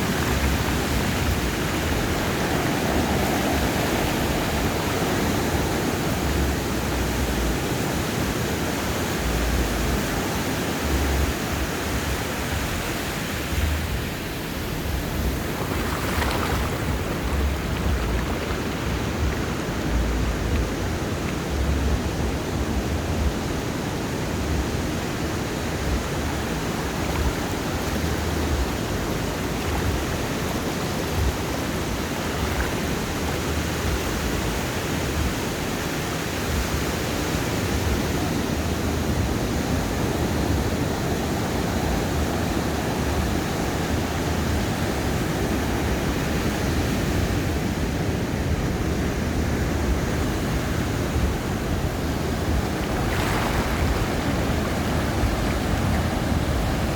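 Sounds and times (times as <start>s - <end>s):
ocean surf on sandy beach: 0.0s - 56.9s.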